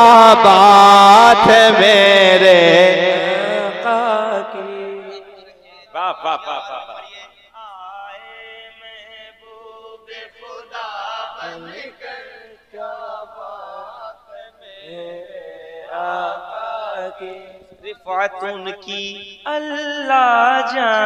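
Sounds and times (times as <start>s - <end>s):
men singing unaccompanied: 0.0s - 21.0s.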